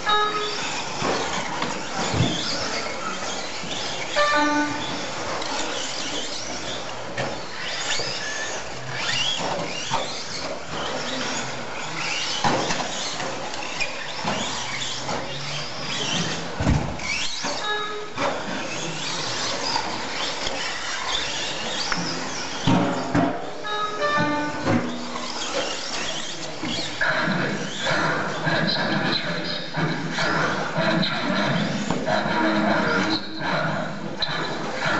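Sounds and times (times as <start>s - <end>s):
rc truck motors whining: 0.0s - 34.9s.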